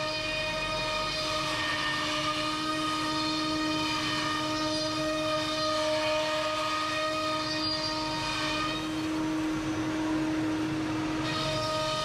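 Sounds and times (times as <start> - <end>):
cnc router spindle whining: 0.0 - 12.0.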